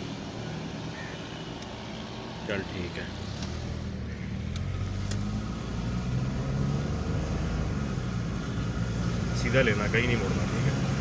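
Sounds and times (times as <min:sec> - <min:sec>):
car engine running: 0:00.0 - 0:11.0
road noise inside car: 0:00.0 - 0:11.0.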